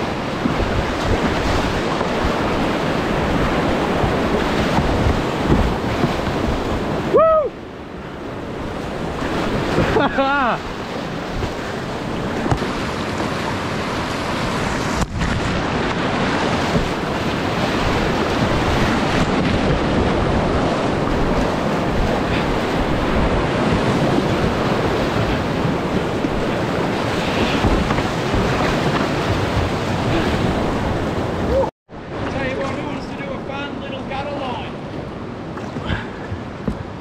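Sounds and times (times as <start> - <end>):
wind on microphone: 0.0 - 32.9
whitewater rushing and splashing: 0.0 - 37.0.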